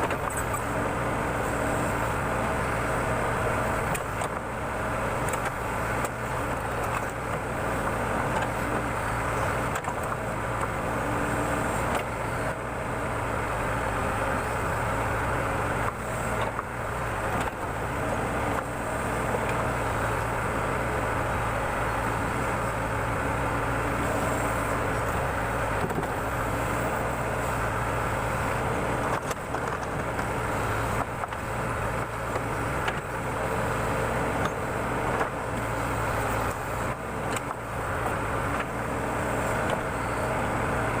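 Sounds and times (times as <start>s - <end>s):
backhoe diesel engine running: 0.0s - 41.0s.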